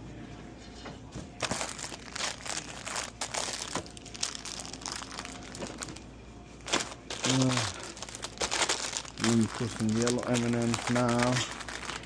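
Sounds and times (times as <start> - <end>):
plastic wrappers crinkling: 1.4 - 6.0, 6.6 - 12.0.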